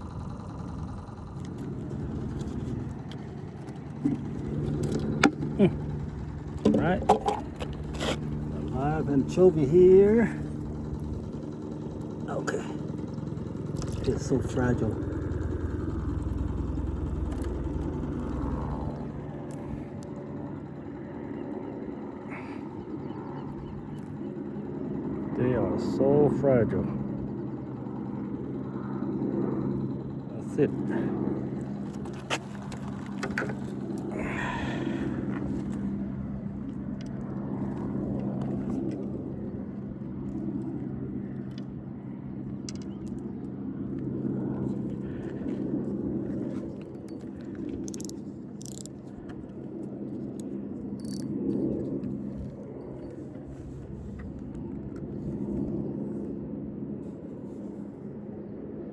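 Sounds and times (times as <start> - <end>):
engine humming: 0.0 - 55.7.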